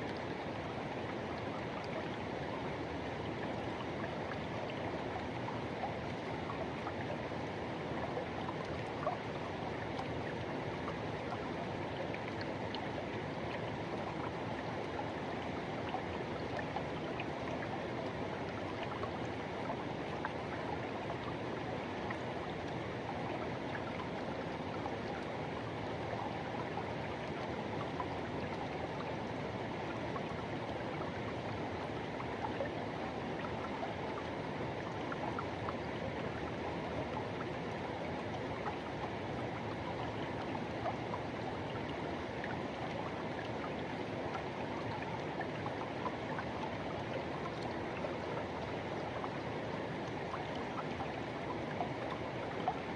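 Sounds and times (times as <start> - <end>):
river flowing over rocks: 0.1 - 52.9.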